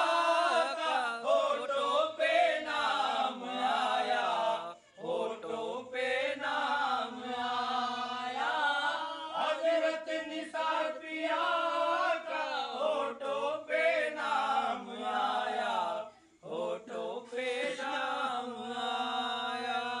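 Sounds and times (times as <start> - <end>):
two men singing: 0.0 - 20.0.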